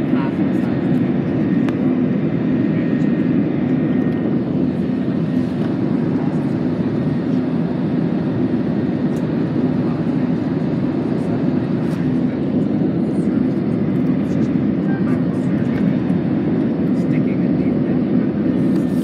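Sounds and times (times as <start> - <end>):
jet cabin engine roar: 0.0 - 19.0.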